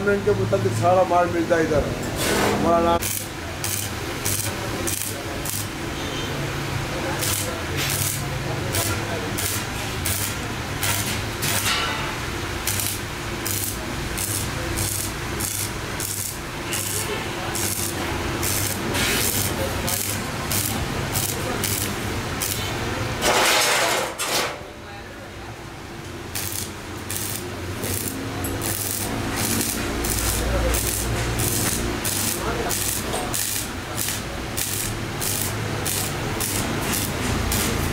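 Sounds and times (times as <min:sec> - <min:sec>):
welding arc crackling and hissing: 0:02.2 - 0:24.1, 0:26.2 - 0:37.9.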